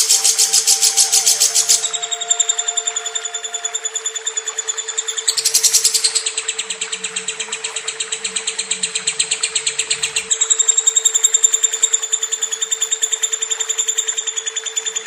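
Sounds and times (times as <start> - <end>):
steady low hum: 0.0 - 14.2
lovebird chattering trill: 0.0 - 14.9.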